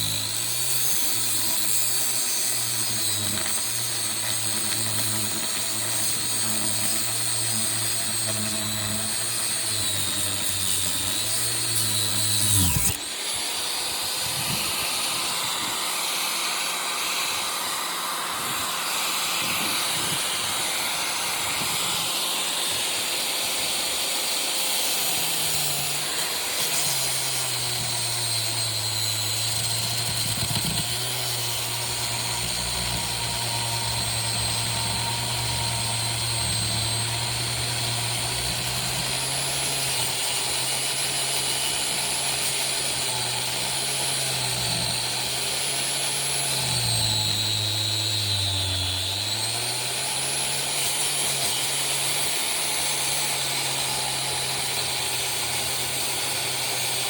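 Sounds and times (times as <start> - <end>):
angle grinder cutting metal: 0.0 - 57.0.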